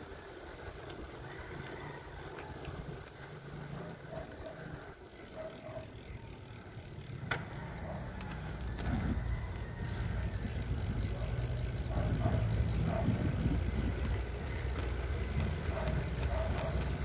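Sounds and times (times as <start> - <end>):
insects chirping: 0.0 - 17.0
small motorcycle engine running: 0.0 - 17.0.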